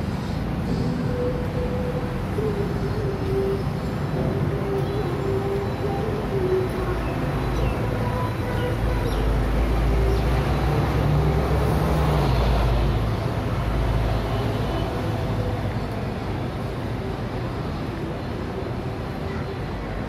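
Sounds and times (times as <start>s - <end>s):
bus engine rumbling: 0.0s - 20.0s
street traffic noise: 0.0s - 20.0s.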